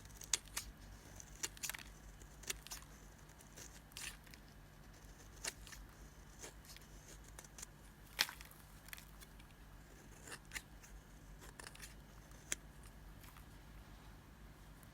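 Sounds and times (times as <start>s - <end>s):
dry bar soap cracking: 0.0s - 4.6s, 5.3s - 13.5s.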